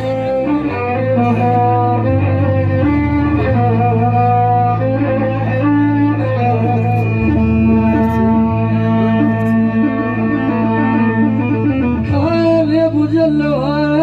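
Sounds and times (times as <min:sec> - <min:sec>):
electronic organ melody: 0:00.0 - 0:13.9.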